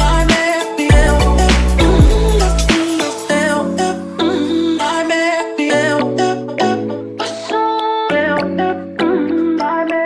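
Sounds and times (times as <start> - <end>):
rhythm and blues music: 0.0 - 10.0.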